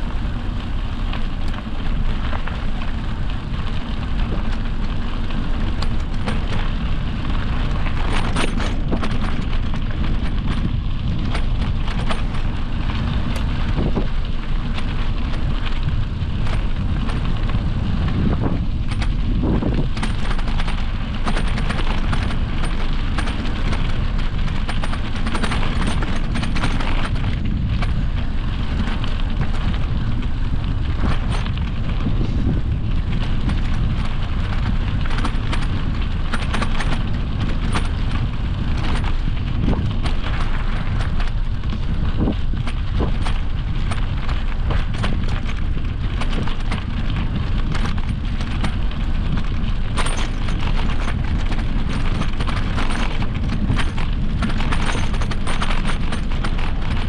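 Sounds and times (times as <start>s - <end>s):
bike rattling over bumps: 0.0s - 57.0s
bike tyres rolling on dirt: 0.0s - 57.0s
wind buffeting microphone: 0.0s - 57.0s.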